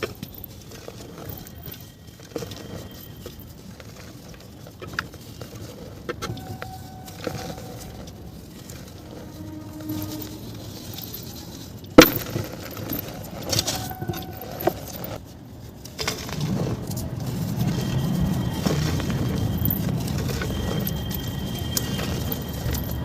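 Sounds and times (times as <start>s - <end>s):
dense crunching of dry material: 0.0s - 23.0s.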